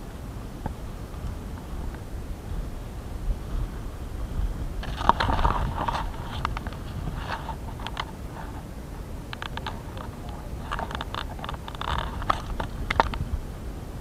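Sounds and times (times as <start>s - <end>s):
low handling rumble: 0.0s - 14.0s
wet leaves and grass rustling: 0.0s - 14.0s.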